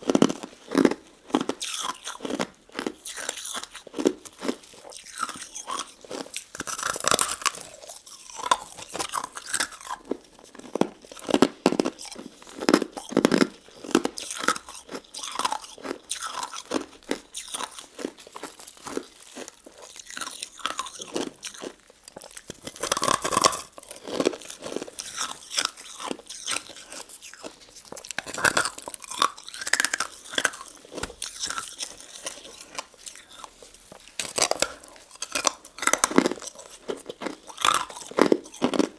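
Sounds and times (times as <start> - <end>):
crunching and chewing ice dessert: 0.0 - 38.9.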